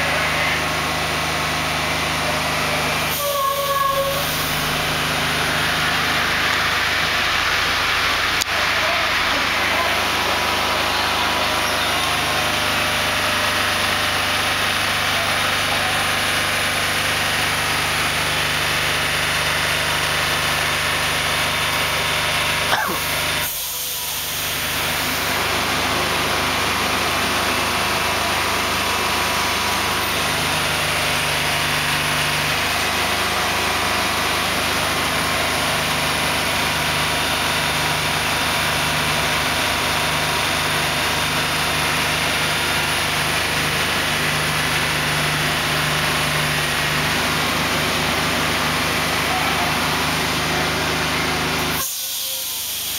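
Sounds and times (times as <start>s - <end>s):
diesel engine running steadily: 0.0s - 52.9s.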